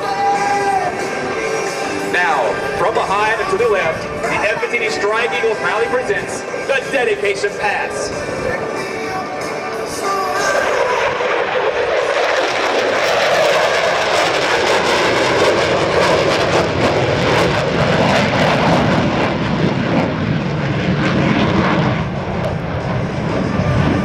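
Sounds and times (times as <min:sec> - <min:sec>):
jet flying by: 0:00.0 - 0:24.0.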